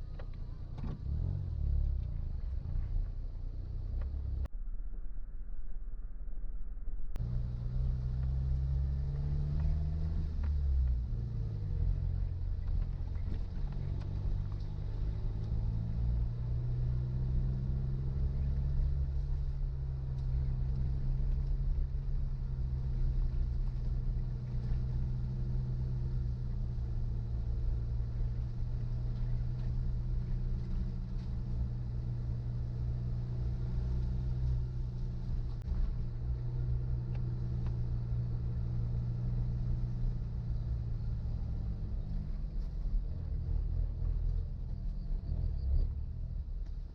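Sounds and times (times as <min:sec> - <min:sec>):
car engine running: 0:00.0 - 0:04.5, 0:07.1 - 0:46.9.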